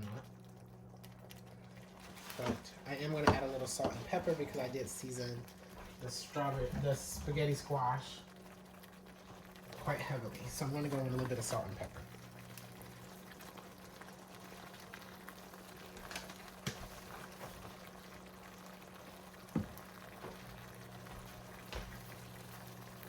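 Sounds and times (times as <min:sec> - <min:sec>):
sauce bubbling in a pan: 0:00.0 - 0:23.0.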